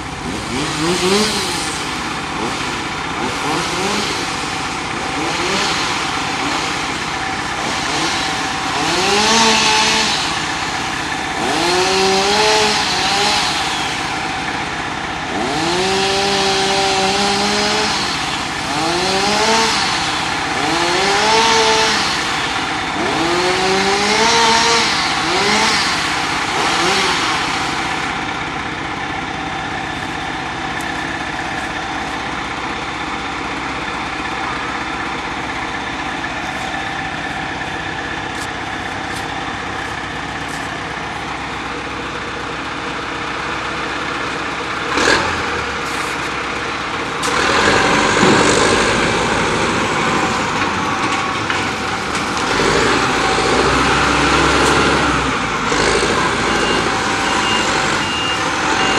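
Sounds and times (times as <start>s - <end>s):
heavy equipment engine revving: 0.0s - 58.9s.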